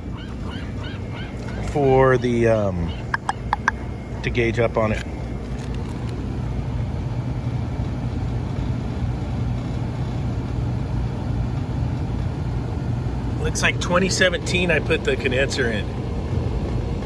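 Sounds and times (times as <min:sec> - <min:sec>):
air conditioning blower humming: 0:00.0 - 0:17.0.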